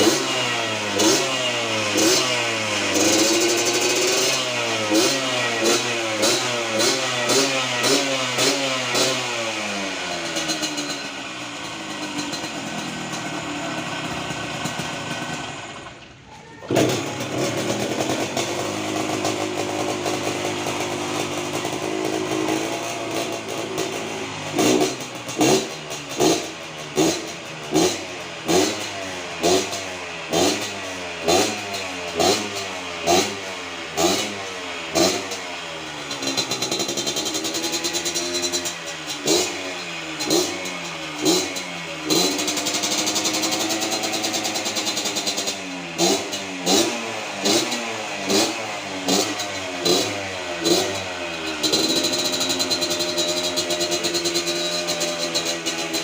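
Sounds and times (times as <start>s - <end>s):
two-stroke motorcycle engine revving: 0.0s - 16.0s, 16.7s - 56.0s.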